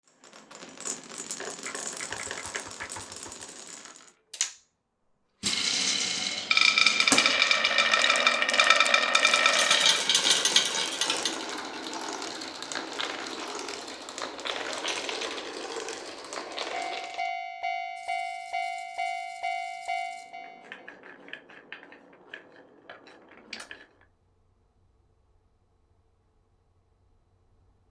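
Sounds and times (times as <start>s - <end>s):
marbles clattering down wooden tracks: 0.0s - 4.2s, 5.4s - 24.1s.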